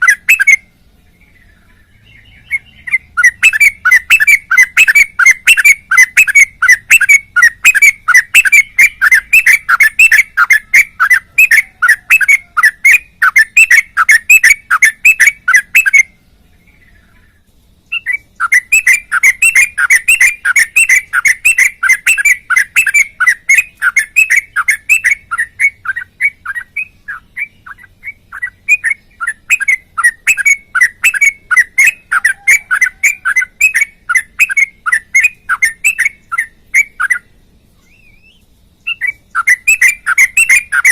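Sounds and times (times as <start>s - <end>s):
bulbul singing fast repeated notes: 0.0s - 40.9s.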